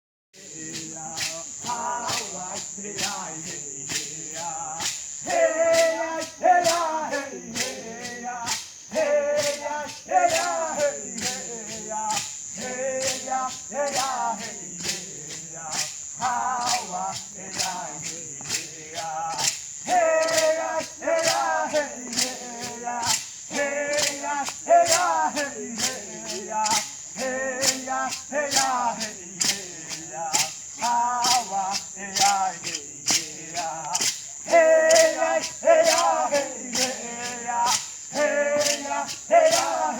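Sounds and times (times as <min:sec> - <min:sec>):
men and women chanting: 0:00.4 - 0:39.9
steady percussion beat: 0:00.4 - 0:39.9.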